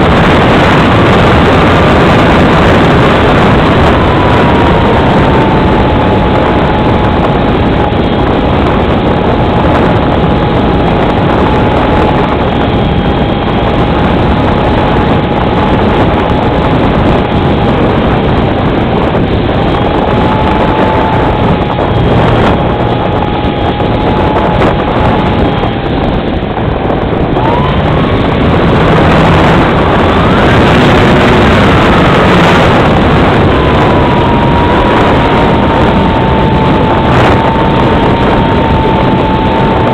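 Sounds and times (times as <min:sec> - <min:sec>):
model plane motor whine: 0:00.0 - 0:26.4, 0:27.1 - 0:39.9
wind rush on microphone: 0:00.0 - 0:39.9.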